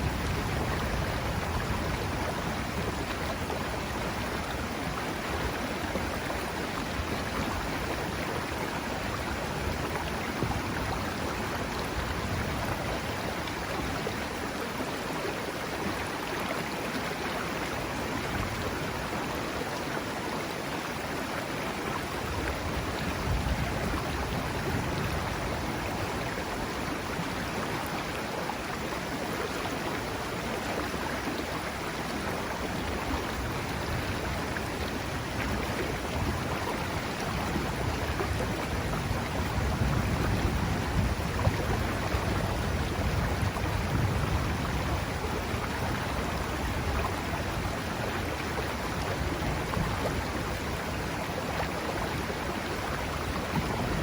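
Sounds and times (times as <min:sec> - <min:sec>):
water rushing over stones: 0:00.0 - 0:54.0.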